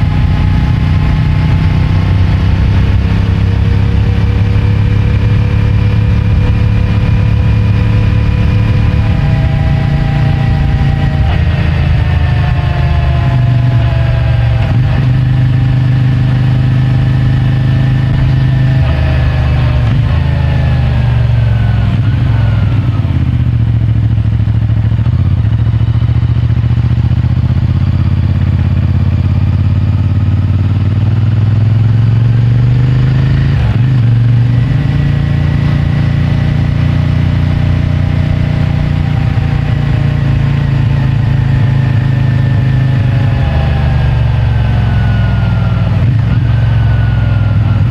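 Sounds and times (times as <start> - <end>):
motorcycle engine: 0.0 - 47.9.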